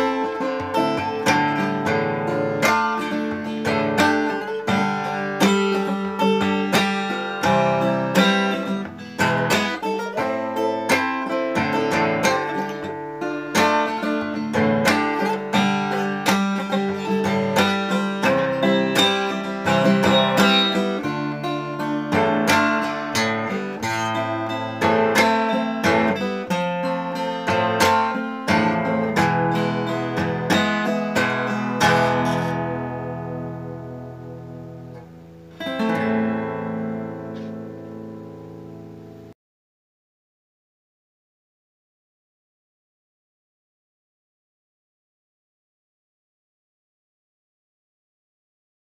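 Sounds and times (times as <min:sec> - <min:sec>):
fingerstyle acoustic guitar: 0:00.0 - 0:39.4.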